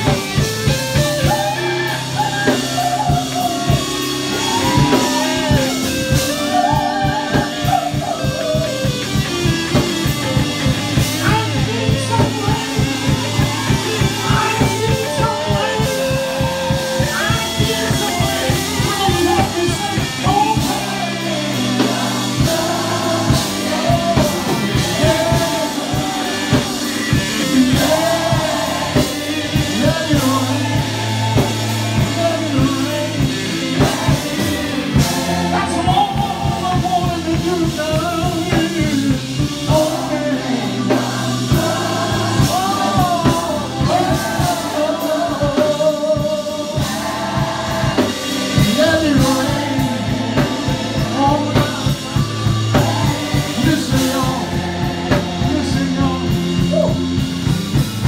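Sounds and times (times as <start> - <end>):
bass guitar: 0.0 - 58.0
drum kit beat: 0.0 - 58.0
gospel singing: 0.0 - 58.0.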